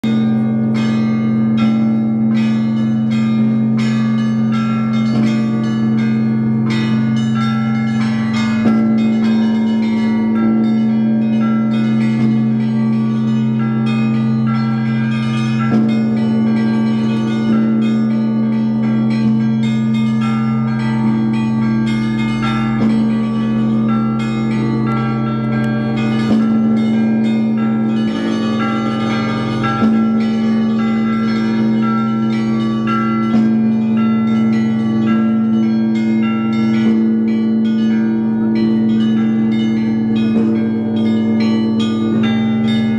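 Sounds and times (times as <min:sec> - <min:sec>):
large bell humming: 0:00.0 - 0:42.9
small church bells ringing: 0:00.0 - 0:42.9.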